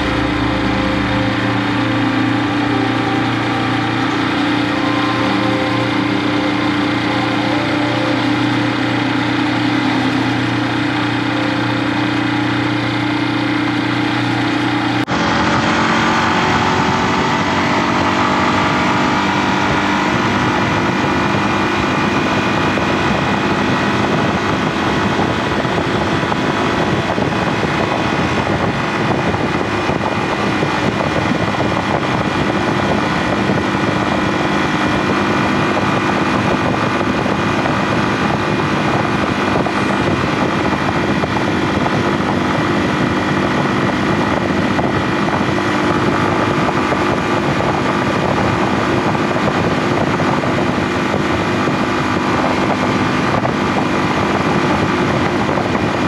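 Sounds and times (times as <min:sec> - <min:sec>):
motorcycle engine running: 0:00.0 - 0:56.0
rushing wind noise: 0:00.0 - 0:56.0.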